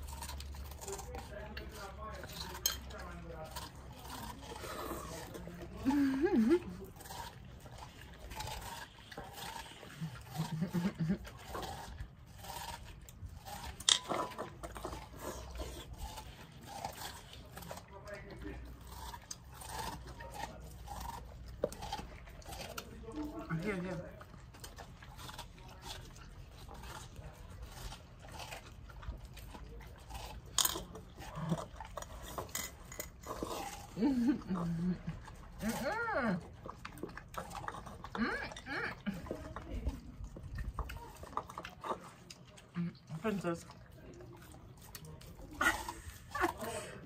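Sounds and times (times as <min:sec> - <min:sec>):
dogs crunching watermelon: 0:00.0 - 0:47.0
wet chewing and slurping: 0:00.0 - 0:47.0.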